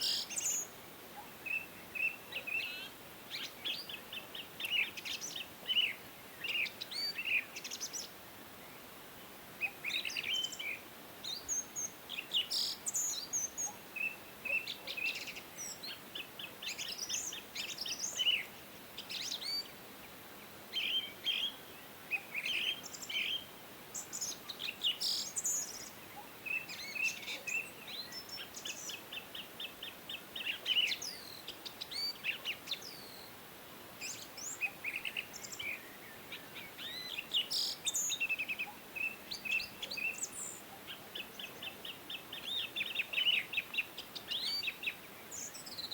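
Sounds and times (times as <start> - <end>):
small birds chirping: 0.0 - 9.0, 9.6 - 45.9
faint background hiss: 0.0 - 45.9.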